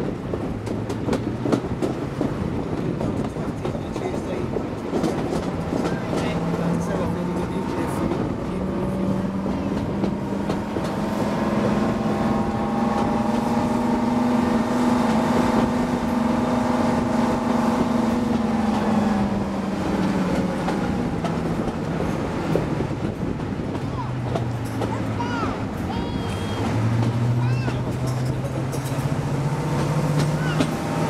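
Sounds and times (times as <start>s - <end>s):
diesel locomotive engine running: 0.0s - 31.0s
running train noise: 0.0s - 31.0s.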